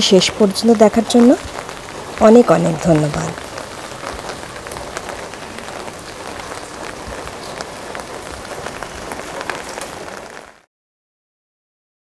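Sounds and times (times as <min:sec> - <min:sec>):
rain drops ticking: 0:00.0 - 0:10.7.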